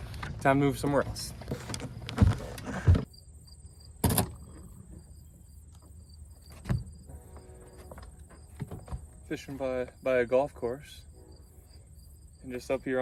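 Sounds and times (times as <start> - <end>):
insects chirping: 0.6 - 13.0.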